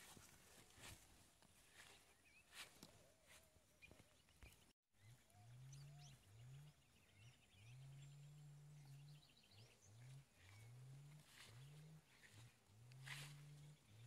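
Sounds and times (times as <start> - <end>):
faint bird chirps: 1.8 - 14.0.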